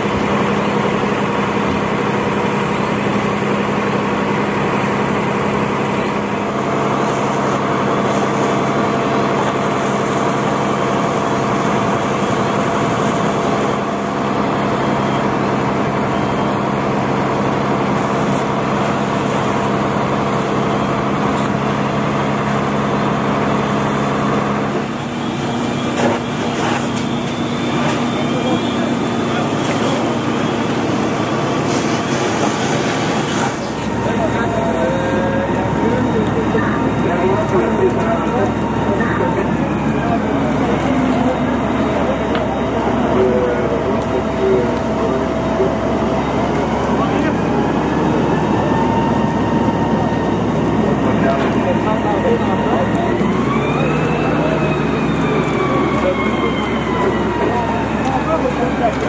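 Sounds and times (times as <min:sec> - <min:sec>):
fire truck engine at high revs: 0:00.0 - 0:59.0.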